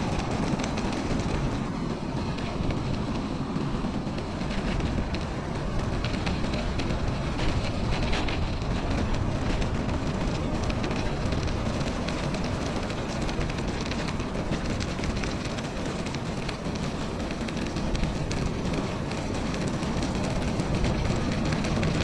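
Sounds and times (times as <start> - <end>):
bicycle tyres rolling on snow: 0.0 - 22.0
wind rumbling on microphone: 0.0 - 22.0.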